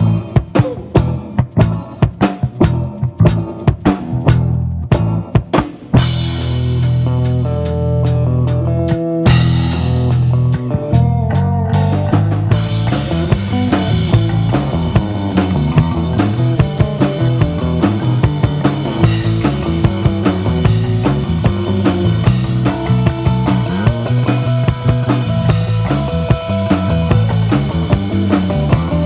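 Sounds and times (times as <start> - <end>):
bass guitar: 0.0 - 29.0
drum kit beat: 0.0 - 29.0
guitar: 0.0 - 29.0.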